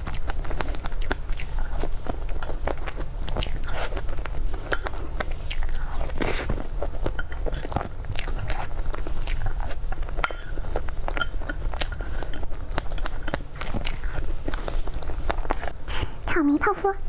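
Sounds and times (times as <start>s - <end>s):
biting and chewing: 0.0s - 16.2s.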